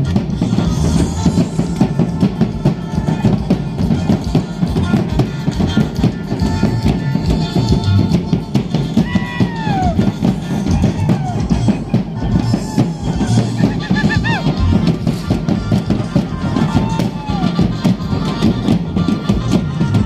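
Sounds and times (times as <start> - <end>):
loud music with drumming: 0.0 - 20.0.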